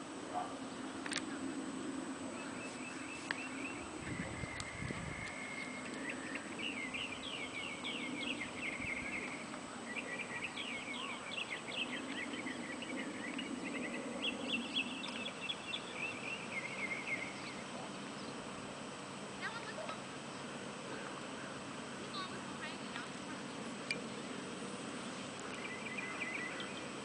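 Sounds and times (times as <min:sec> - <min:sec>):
faint low hum: 0:00.0 - 0:27.0
birds chirping: 0:02.2 - 0:27.0.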